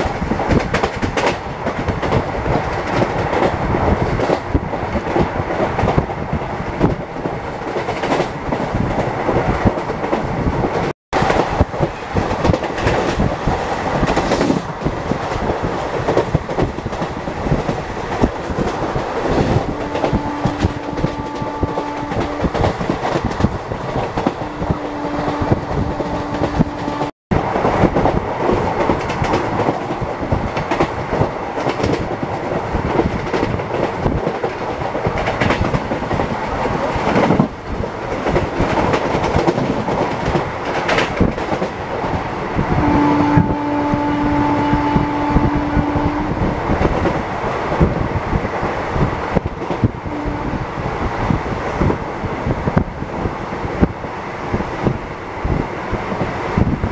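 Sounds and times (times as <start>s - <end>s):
train wheels clacking on rails: 0.0s - 56.9s.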